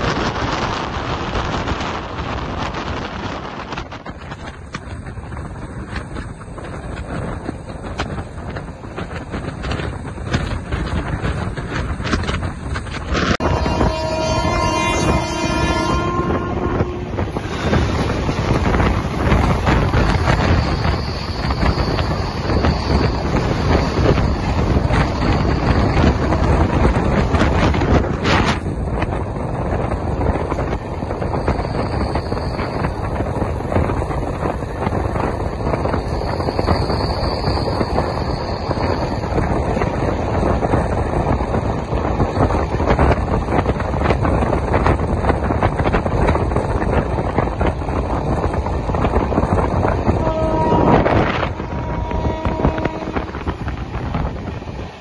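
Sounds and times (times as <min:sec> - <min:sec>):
train wheels rumbling on rail: 0:00.0 - 0:55.0
wind rushing over microphone: 0:00.0 - 0:55.0.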